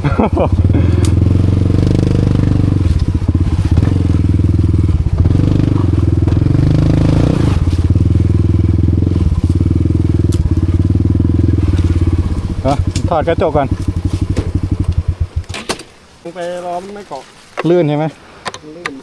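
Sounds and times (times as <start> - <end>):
motorcycle engine lugging: 0.0 - 16.1.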